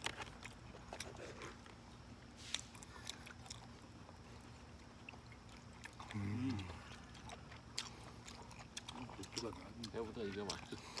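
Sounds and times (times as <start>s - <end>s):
biting and chewing: 0.0s - 11.0s
faint steady hum: 0.0s - 11.0s.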